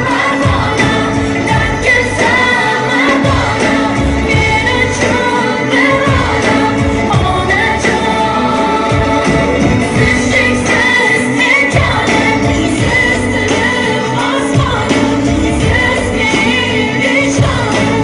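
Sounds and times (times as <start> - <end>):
amplified band with steady beat: 0.0 - 18.0
woman singing pop song: 0.0 - 18.0.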